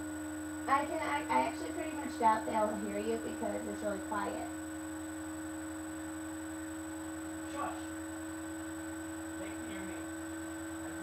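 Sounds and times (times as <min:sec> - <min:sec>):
computer electrical hum: 0:00.0 - 0:11.0.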